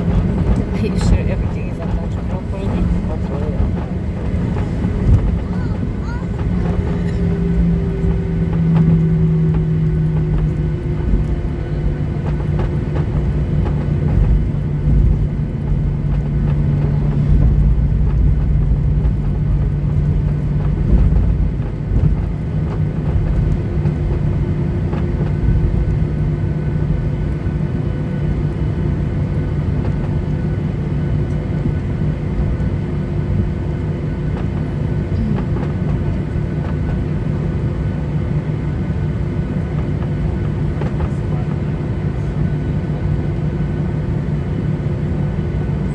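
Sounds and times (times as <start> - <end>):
jet engines droning hum: 0.0 - 45.9
rumble of wheels rolling: 0.0 - 45.9.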